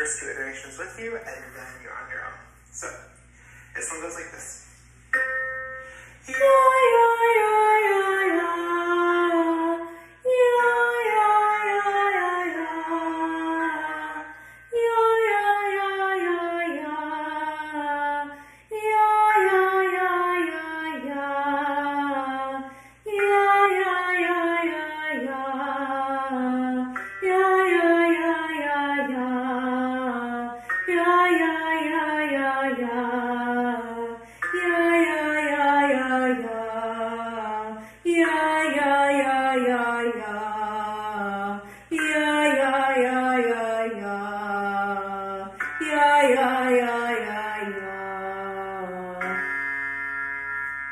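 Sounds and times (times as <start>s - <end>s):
woman singing scale warm-up: 5.8s - 49.8s.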